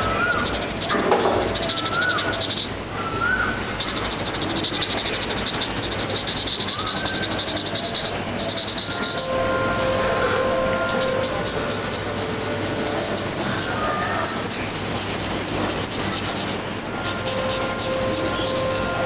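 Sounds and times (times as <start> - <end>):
pencil shading on paper: 0.0 - 2.8, 3.8 - 19.0.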